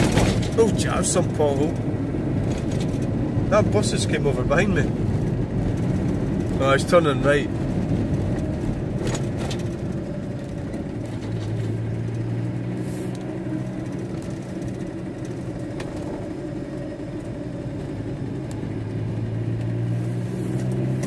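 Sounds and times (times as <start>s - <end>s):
van engine running: 0.0s - 21.0s.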